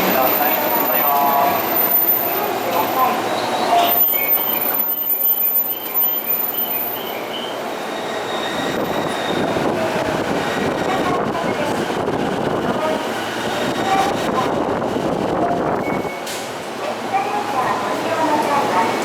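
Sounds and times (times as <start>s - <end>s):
crowd and train hubbub: 0.0s - 19.0s.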